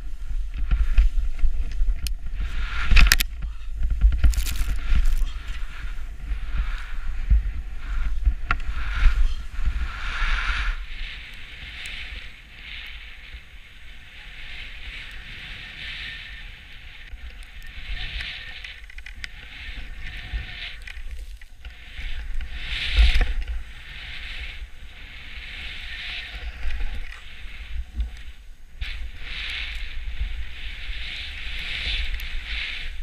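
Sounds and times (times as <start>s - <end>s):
skis hissing through powder snow: 0.0s - 3.2s, 4.0s - 33.0s
wind buffeting microphone: 0.0s - 33.0s.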